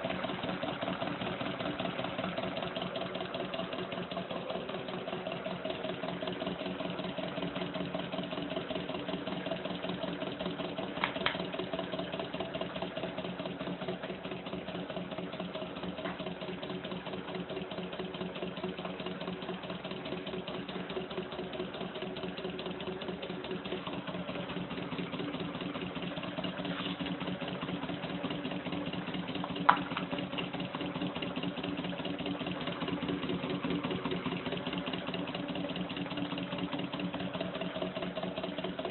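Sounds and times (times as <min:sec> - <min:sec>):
stirling engine hum: 0:00.0 - 0:38.9.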